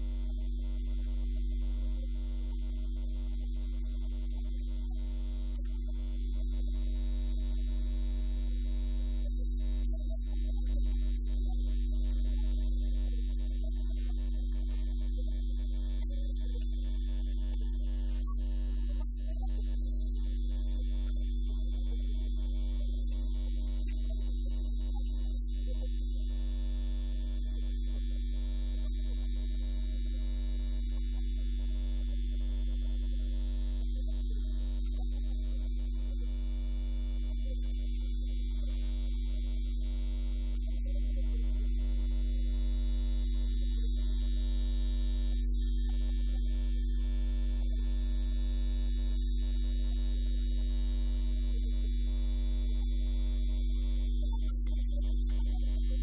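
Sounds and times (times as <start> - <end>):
electrical mains hum: 0.0 - 56.0
faint steady tones: 0.0 - 56.0.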